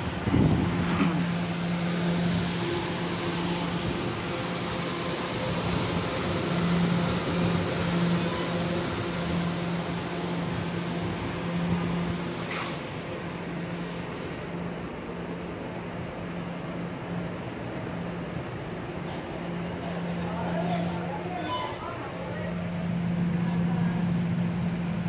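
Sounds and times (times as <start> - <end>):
subway car equipment humming: 0.0 - 25.0.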